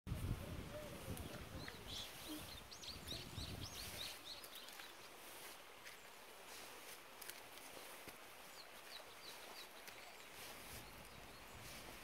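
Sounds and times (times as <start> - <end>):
songbird chirping: 0.2 - 12.0.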